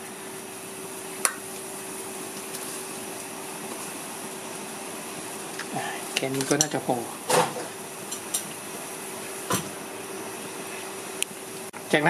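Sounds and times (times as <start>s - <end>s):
water boiling in pot: 0.0s - 12.0s.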